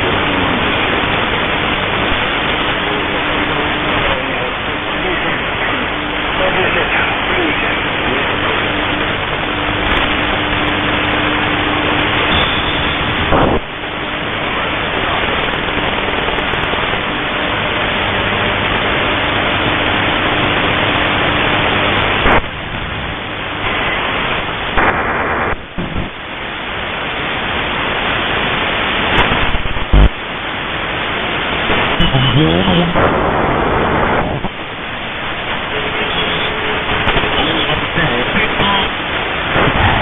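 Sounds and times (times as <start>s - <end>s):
shortwave radio static hiss: 0.0s - 40.0s.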